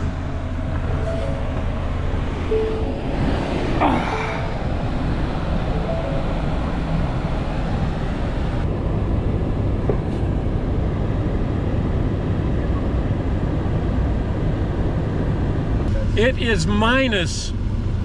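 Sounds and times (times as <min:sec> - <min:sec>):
engine idling low rumble: 0:00.0 - 0:16.5.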